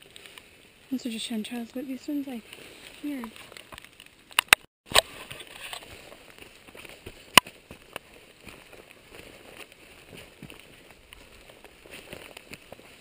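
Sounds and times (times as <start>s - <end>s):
walking through wet undergrowth: 0.0s - 4.4s, 5.0s - 13.0s.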